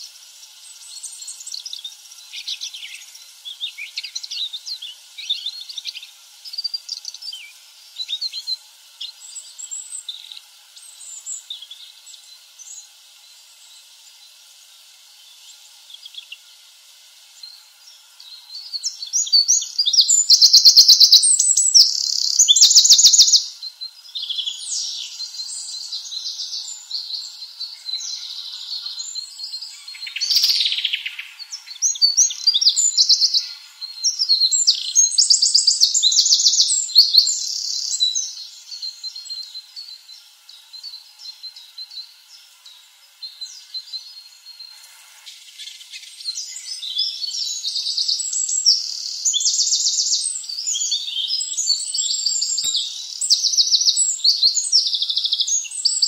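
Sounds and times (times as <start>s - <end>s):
songbirds trilling: 0.0s - 56.0s.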